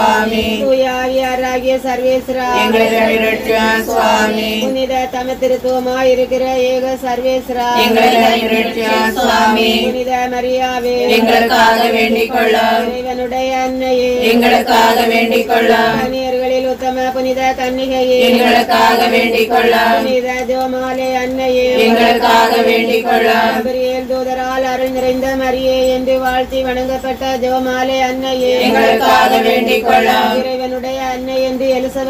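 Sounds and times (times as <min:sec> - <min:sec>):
group singing devotional chant: 0:00.0 - 0:32.0.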